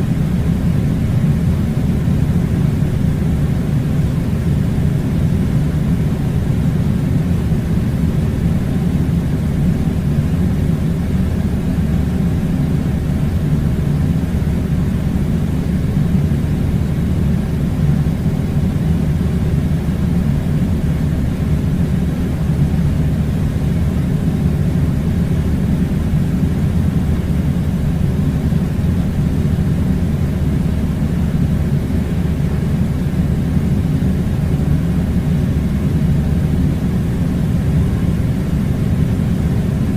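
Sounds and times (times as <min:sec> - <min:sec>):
air conditioner blowing: 0:00.0 - 0:39.9.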